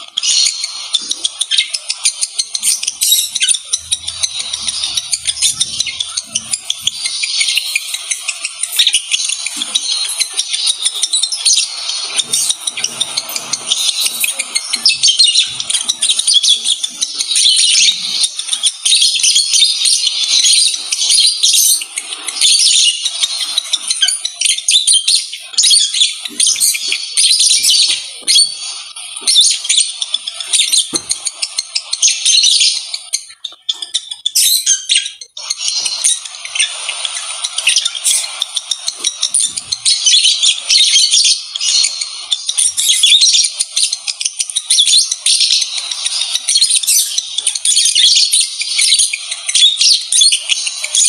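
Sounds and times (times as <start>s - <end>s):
lovebirds chattering: 0.0s - 51.0s.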